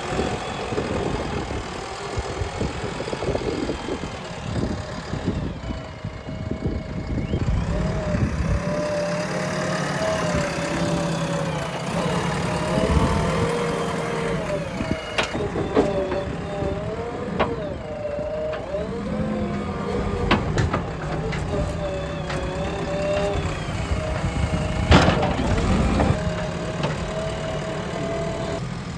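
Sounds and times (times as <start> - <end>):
backhoe loader engine whining: 0.0 - 28.9.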